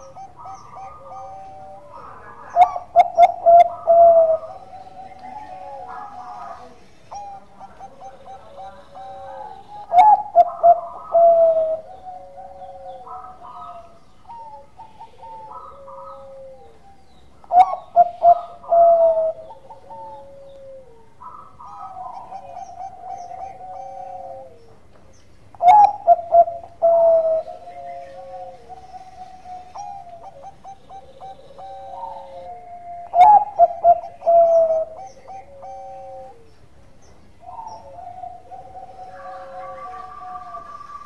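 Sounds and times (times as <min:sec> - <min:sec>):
soft dove cooing: 0:00.0 - 0:24.9, 0:25.6 - 0:36.6, 0:37.4 - 0:41.0
dove song phrases: 0:00.0 - 0:41.0.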